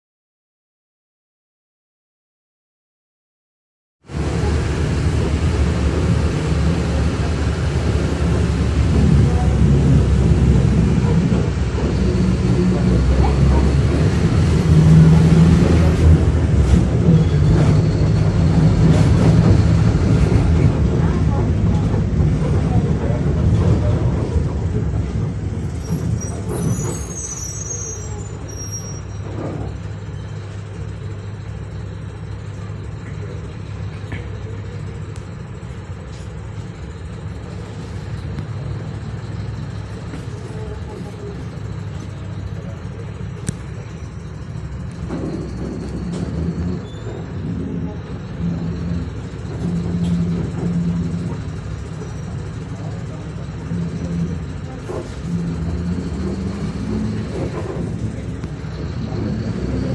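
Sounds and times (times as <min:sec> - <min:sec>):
bus engine droning: 0:04.0 - 0:59.9
road noise: 0:04.0 - 0:59.9
rattles and clicks from bus body: 0:04.2 - 0:59.9.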